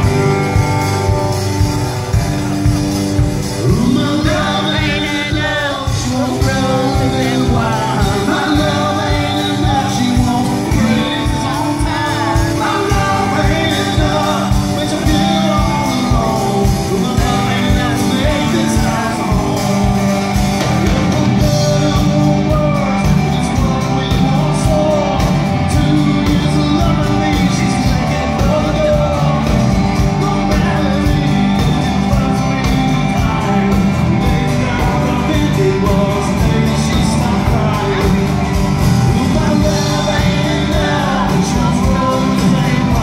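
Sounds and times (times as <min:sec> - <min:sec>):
live rock band playing: 0:00.0 - 0:43.0
person singing: 0:00.0 - 0:43.0
steady drum beat: 0:00.0 - 0:43.0.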